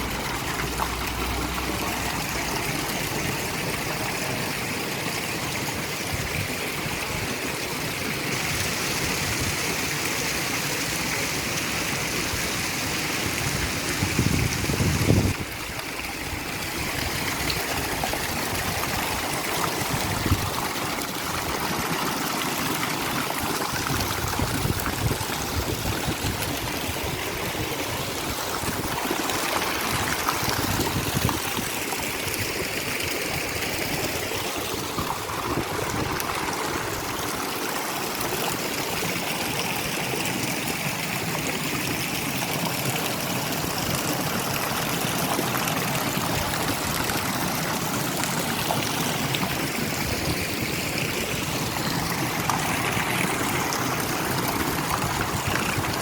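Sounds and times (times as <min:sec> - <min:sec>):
stream water trickling: 0:00.0 - 0:56.0.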